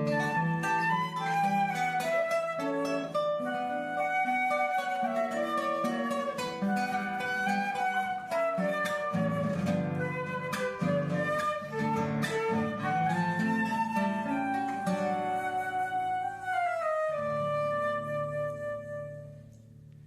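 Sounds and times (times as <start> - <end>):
flowing melody of held notes: 0.0 - 19.1
plucked strings: 0.0 - 20.0.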